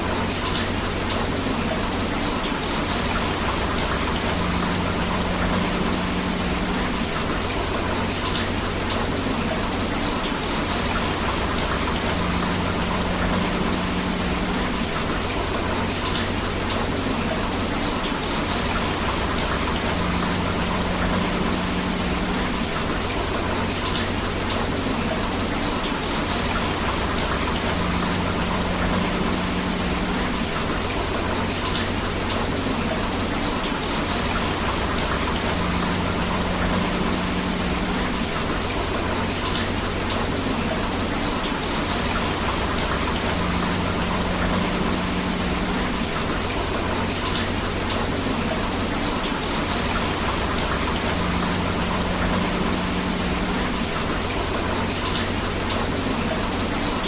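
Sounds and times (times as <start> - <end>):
rushing river water: 0.0 - 57.0
steady rain: 0.0 - 57.0.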